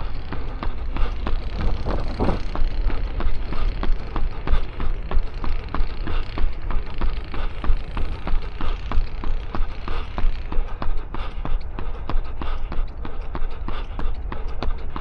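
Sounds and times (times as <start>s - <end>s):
runner's footsteps: 0.0s - 15.0s
wind rumble on microphone: 0.0s - 15.0s.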